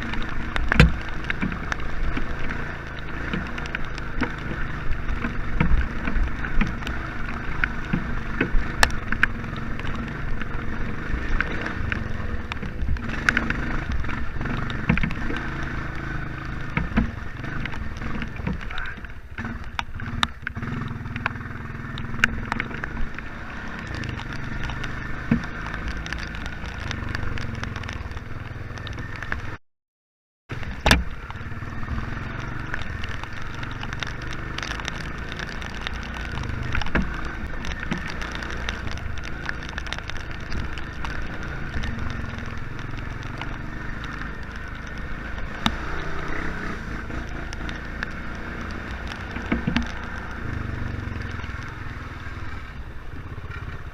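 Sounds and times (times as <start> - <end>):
atv engine running: 0.0 - 29.6, 30.5 - 53.9.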